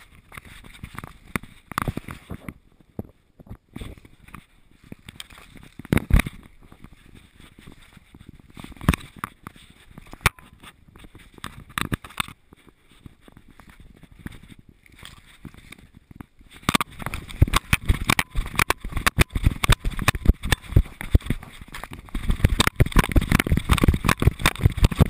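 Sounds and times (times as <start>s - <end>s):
camera harness knocks and scuffs: 3.5s - 25.0s.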